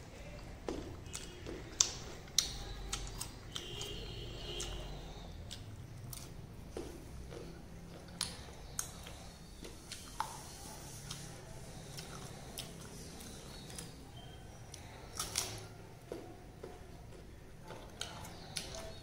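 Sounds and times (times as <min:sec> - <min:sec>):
crunching and chewing mango: 0:00.0 - 0:19.0.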